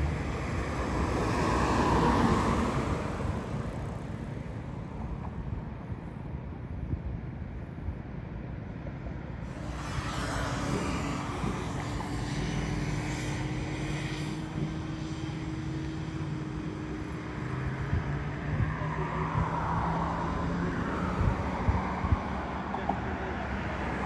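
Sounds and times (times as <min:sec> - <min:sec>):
road and wind noise: 0:00.0 - 0:24.0
vehicle engine humming: 0:00.0 - 0:24.0.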